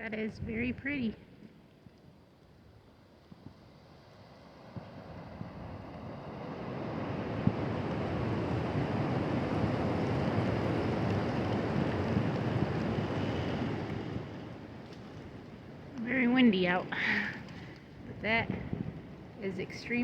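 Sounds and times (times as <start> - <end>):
wind buffeting microphone: 0.0 - 1.2, 4.8 - 20.0.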